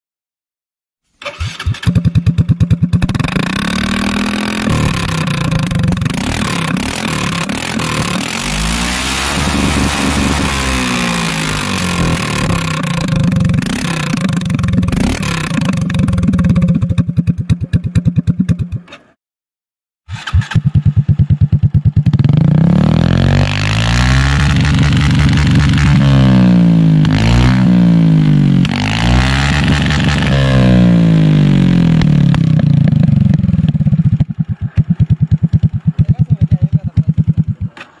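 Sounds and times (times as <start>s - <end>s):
scooter engine revving: 1.2s - 19.0s, 20.1s - 38.0s.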